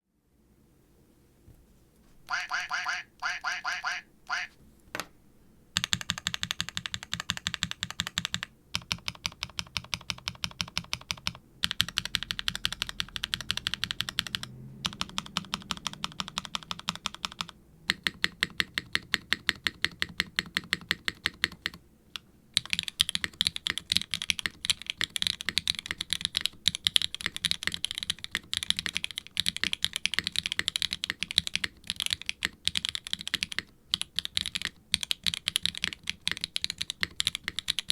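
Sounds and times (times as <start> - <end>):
fast typing on mechanical keyboard: 5.8 - 21.8, 22.6 - 37.9.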